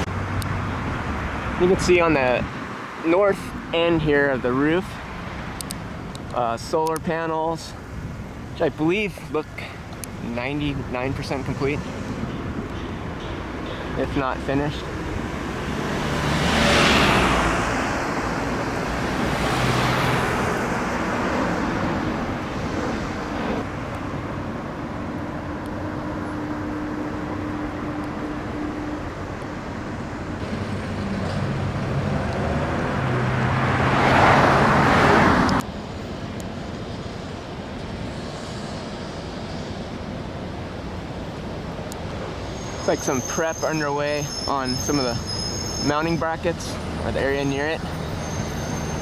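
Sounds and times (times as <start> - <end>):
cars passing: 0.0 - 49.0
traffic hum: 0.0 - 49.0.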